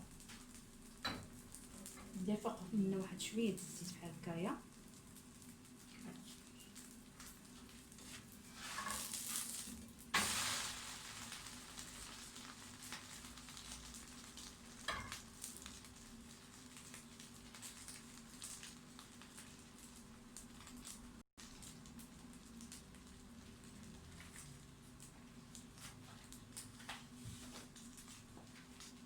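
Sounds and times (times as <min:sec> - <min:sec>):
batter sizzling in oiled pan: 0:00.0 - 0:29.0.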